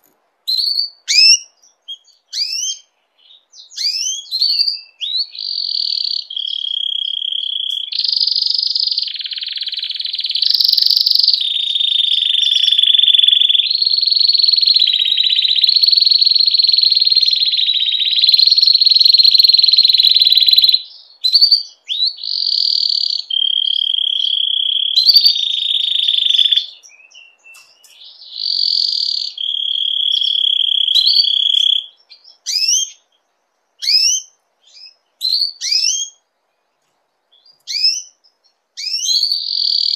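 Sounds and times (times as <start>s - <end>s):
canary singing trills: 0.5s - 39.9s.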